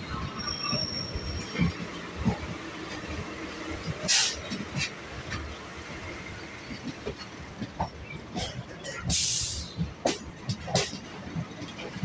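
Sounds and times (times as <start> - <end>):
electric train rumbling on track: 0.0 - 12.0.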